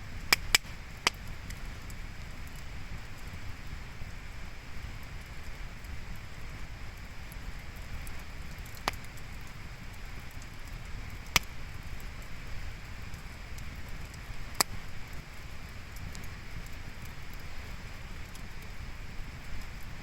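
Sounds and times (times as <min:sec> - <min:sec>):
burning wood popping: 0:00.0 - 0:20.0
campfire hissing and crackling: 0:00.0 - 0:20.0.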